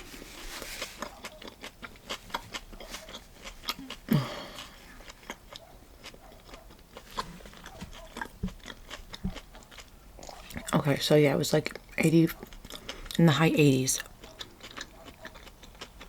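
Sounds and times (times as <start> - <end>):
close chewing with mouth smacks: 0.4 - 16.0.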